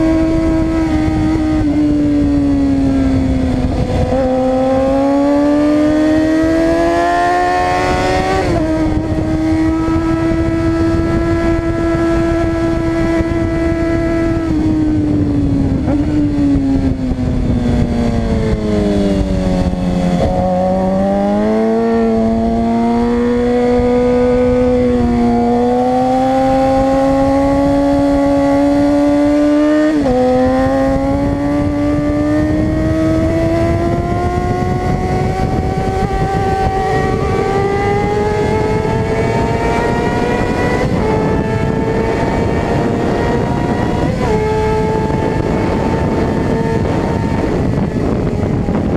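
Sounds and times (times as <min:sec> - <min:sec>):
motorcycle engine at high revs: 0:00.0 - 0:48.9
wind and road noise: 0:00.0 - 0:48.9.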